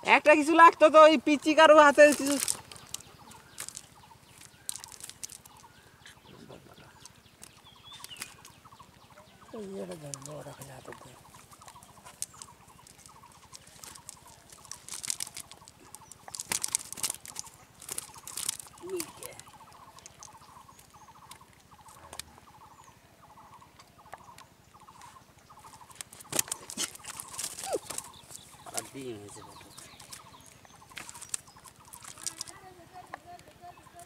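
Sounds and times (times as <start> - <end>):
wet net and fish rustling: 0.1 - 22.4, 24.6 - 34.0.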